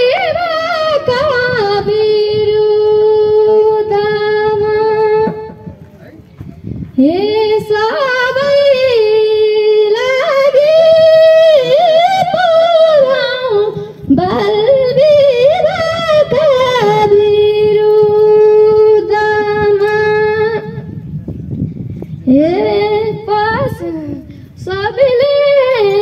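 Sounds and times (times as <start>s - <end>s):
girl singing folk song: 0.0s - 5.6s, 6.9s - 20.9s, 22.2s - 26.0s.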